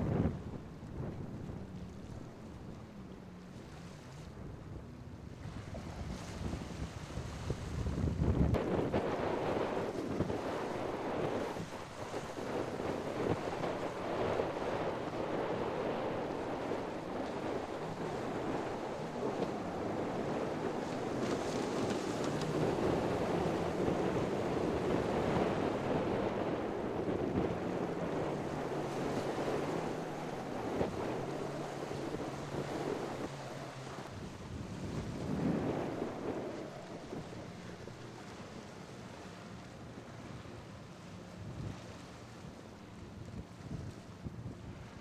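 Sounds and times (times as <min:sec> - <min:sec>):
boat engine humming: 0:00.0 - 0:45.0
waves washing in: 0:00.0 - 0:45.0
wind buffeting microphone: 0:00.0 - 0:45.0.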